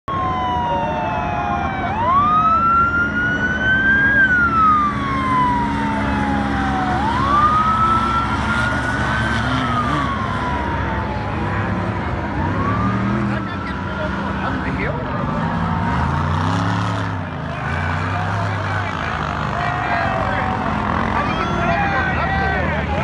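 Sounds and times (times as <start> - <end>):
police siren wailing: 0.1 - 23.0
vehicle engines running low: 0.1 - 23.0.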